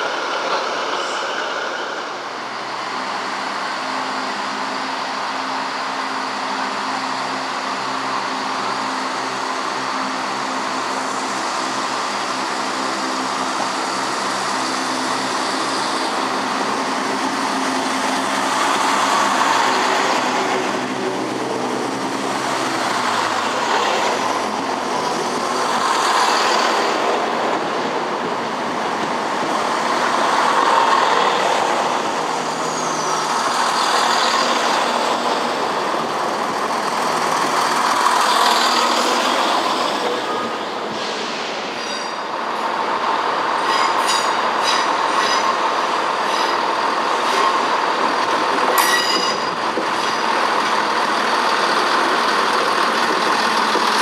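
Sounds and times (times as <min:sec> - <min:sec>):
train wheels rolling: 0:08.4 - 0:54.0.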